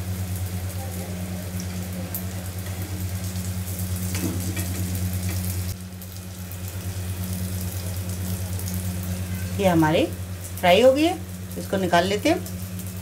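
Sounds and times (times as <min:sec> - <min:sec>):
oil sizzling and crackling: 0:00.0 - 0:13.0
steady low hum: 0:00.0 - 0:13.0.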